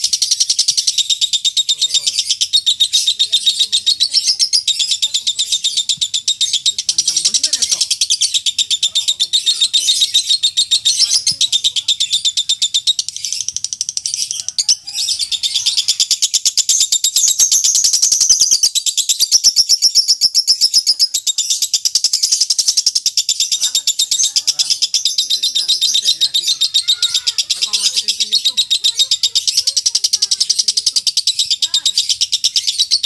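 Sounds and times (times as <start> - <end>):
lovebird chattering trill: 0.0 - 33.0.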